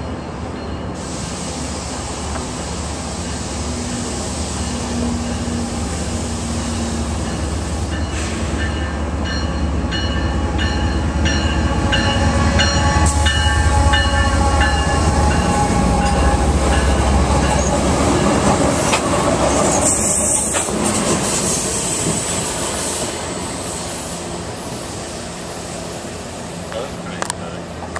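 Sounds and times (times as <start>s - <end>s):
diesel locomotive engine rumble: 0.0s - 27.9s.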